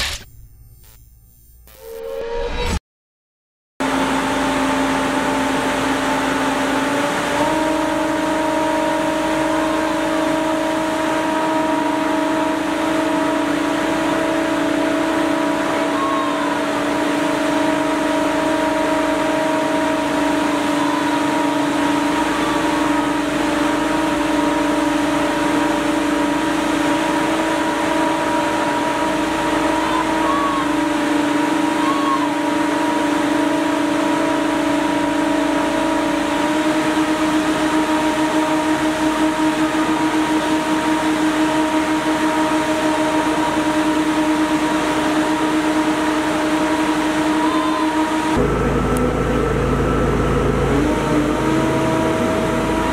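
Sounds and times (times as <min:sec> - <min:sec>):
motor-driven pump humming: 0:03.8 - 0:52.9.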